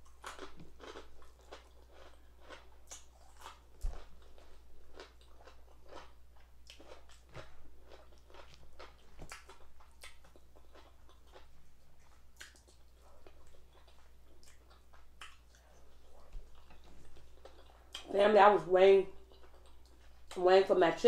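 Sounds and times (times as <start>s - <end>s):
chewing crunchy food: 0.0s - 18.1s, 19.1s - 20.4s.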